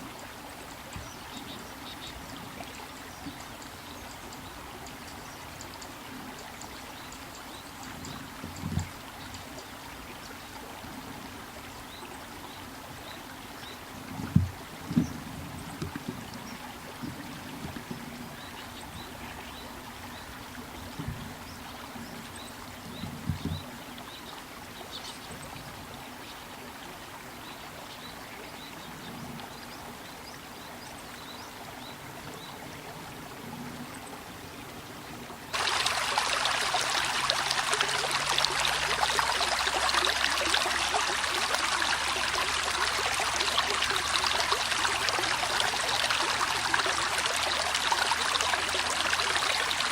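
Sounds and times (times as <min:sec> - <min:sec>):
rushing river water: 0:00.0 - 0:49.9.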